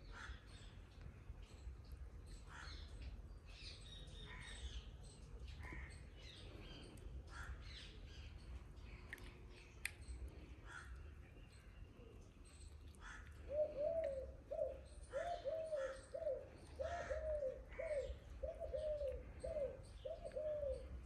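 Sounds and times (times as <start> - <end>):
faint birds calling: 0.0 - 21.0.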